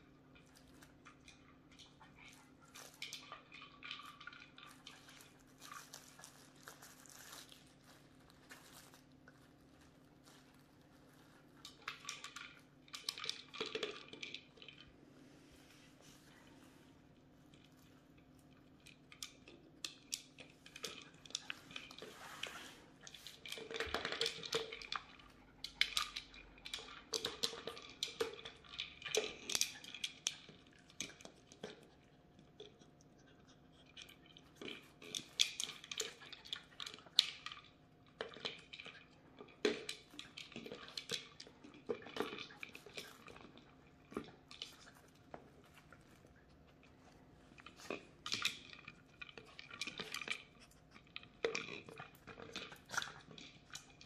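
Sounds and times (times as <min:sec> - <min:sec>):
puppy licking and chewing: 0:00.0 - 0:15.1, 0:15.8 - 0:54.0.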